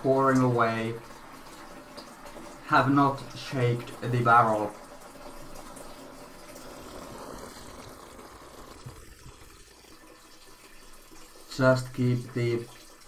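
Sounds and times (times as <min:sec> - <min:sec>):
liquid trickling into bucket: 0:00.0 - 0:13.0.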